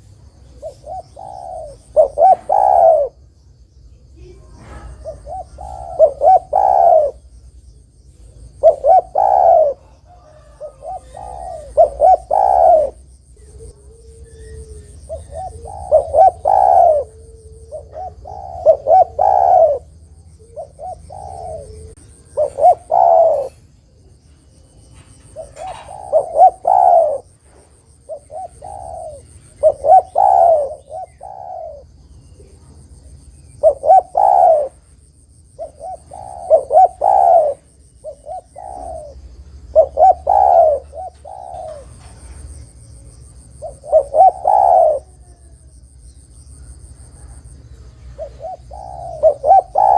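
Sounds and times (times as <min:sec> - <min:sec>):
dove cooing: 0:00.0 - 0:03.3, 0:04.1 - 0:07.4, 0:08.1 - 0:49.9.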